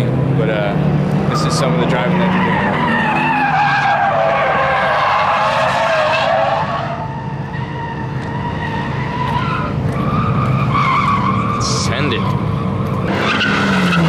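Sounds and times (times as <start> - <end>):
car engine revving: 0.0 - 14.0
tires skidding: 0.4 - 14.0.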